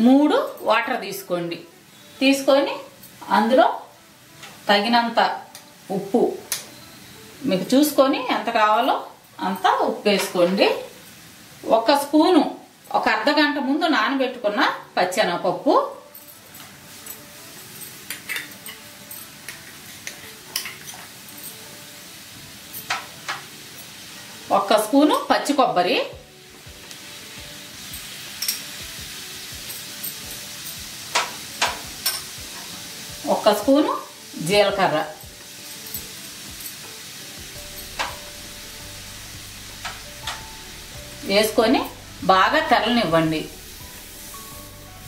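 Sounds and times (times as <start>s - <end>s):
low hiss of heating water: 0.0s - 45.0s.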